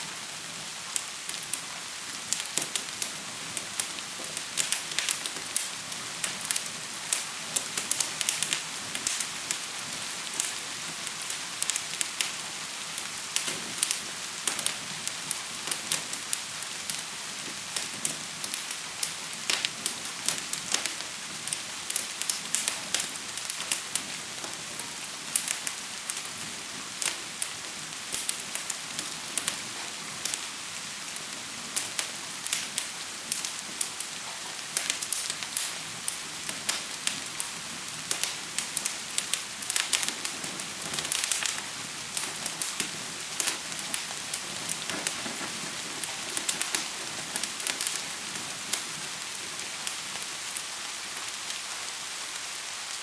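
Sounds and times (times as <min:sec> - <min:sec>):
fire crackling: 0:00.0 - 0:53.0
gentle rain hissing: 0:00.0 - 0:53.0.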